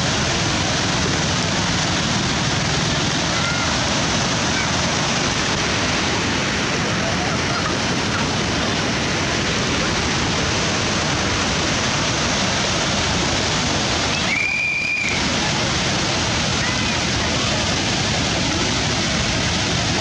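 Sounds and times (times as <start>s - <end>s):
river water rushing and churning: 0.0s - 20.0s.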